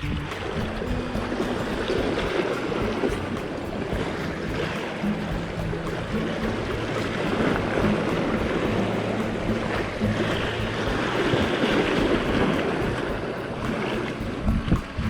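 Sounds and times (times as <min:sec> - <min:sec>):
waves washing against shore: 0:00.0 - 0:15.0
wind buffeting microphone: 0:00.0 - 0:15.0.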